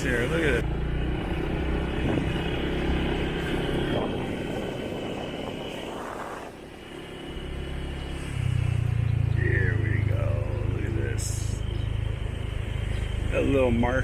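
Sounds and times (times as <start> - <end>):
motorbike engine running: 0.0 - 14.0
road noise: 0.0 - 14.0
wind: 0.0 - 14.0.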